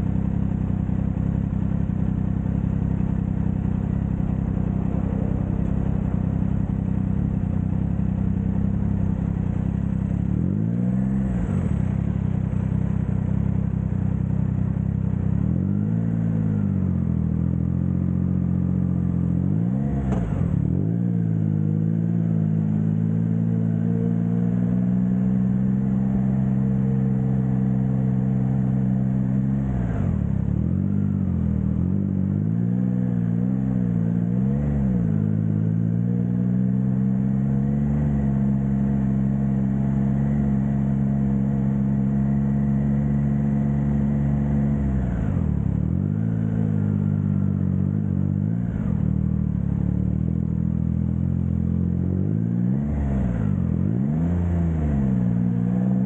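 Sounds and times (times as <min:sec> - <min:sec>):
motorcycle engine at road speed: 0:00.0 - 0:56.0.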